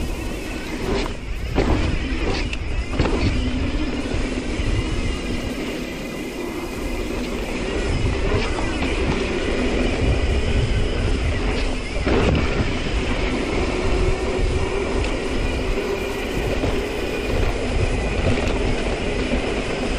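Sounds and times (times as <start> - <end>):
bike rattling: 0.0 - 19.9
bike tyres on dirt: 0.0 - 19.9
wind rumbling on microphone: 0.0 - 19.9.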